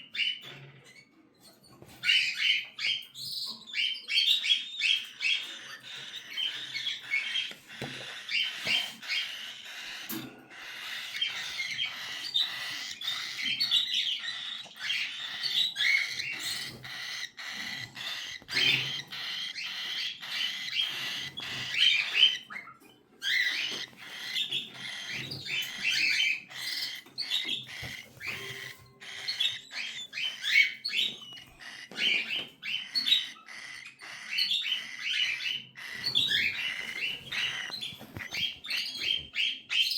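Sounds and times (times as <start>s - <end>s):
cockatiel chicks chirping: 0.0s - 39.9s.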